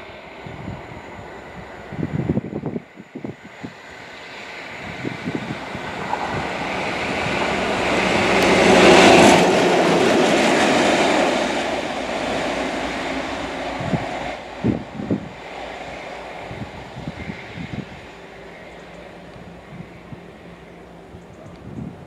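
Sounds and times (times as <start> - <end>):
train passing: 0.0 - 22.0.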